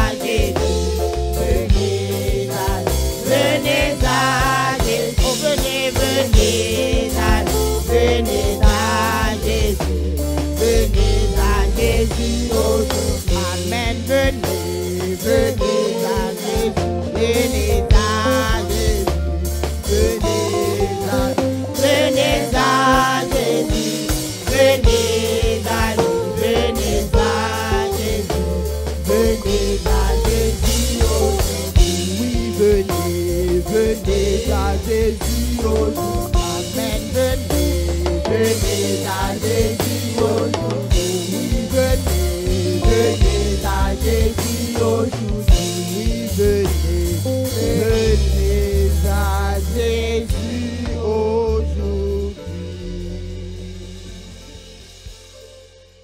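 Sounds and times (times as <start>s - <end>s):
women singing a hymn: 0.0s - 48.4s
band playing: 0.0s - 56.0s
drum kit beat: 0.0s - 56.0s
instrumental accompaniment with bass: 0.0s - 56.0s.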